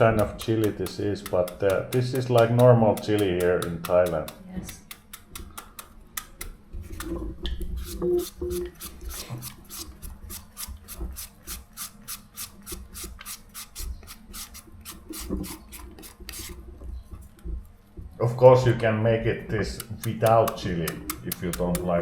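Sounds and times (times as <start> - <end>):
papaya shredding rasping strokes: 0.0 - 16.7, 19.5 - 22.0.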